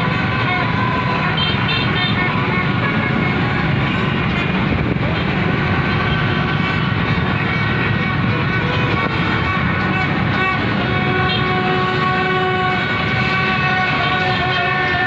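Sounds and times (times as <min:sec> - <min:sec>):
car horns tooting: 0:00.0 - 0:15.0
vehicles running: 0:00.0 - 0:15.0.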